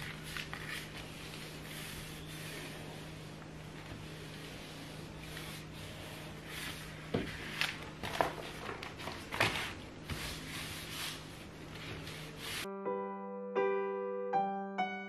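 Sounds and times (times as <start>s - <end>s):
paper rustling and crinkling: 0.0s - 12.7s.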